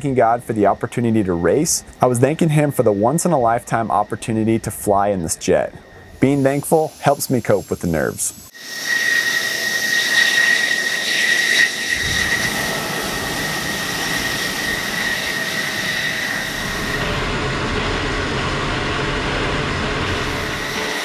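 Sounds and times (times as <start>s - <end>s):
jet engine whine: 0.0s - 21.0s.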